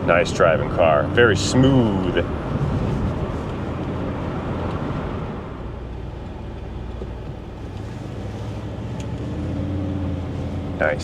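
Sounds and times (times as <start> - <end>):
car engine humming: 0.0 - 11.0
road noise: 0.0 - 11.0.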